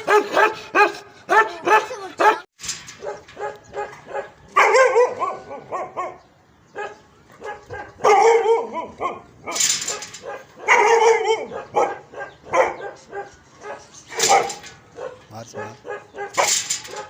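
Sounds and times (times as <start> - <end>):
dog barking: 0.0 - 17.0.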